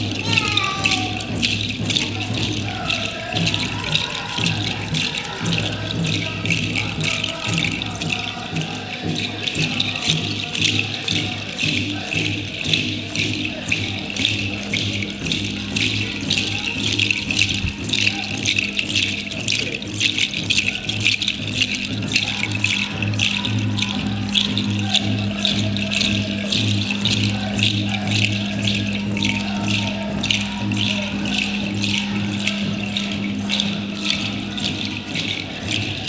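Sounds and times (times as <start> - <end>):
hand rattle shaking: 0.0 - 36.0.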